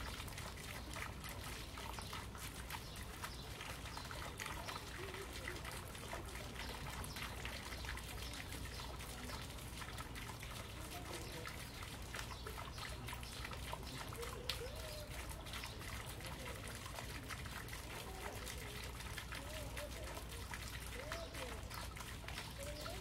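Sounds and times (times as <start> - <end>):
fountain trickling into pond: 0.0 - 23.0.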